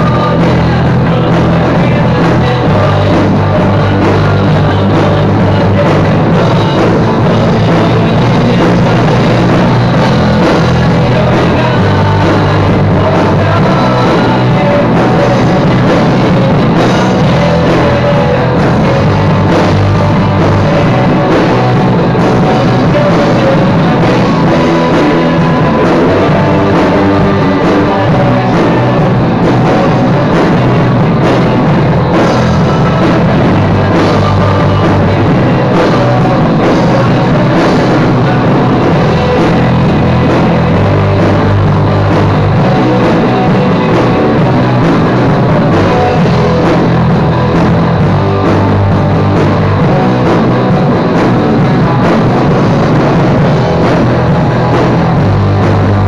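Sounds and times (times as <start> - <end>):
heavy rock music: 0.0 - 56.0.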